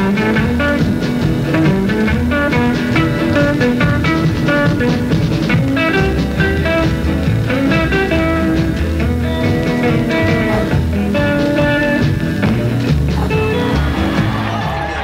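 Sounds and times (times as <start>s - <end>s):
guitar rock music: 0.0s - 15.0s.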